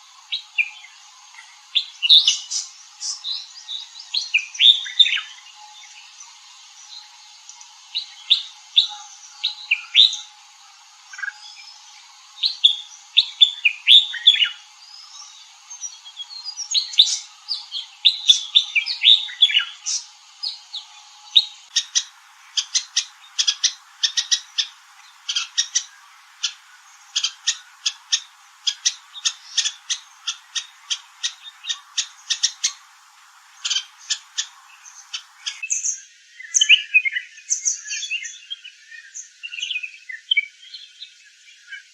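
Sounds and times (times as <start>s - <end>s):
bird calling: 0.0s - 40.6s.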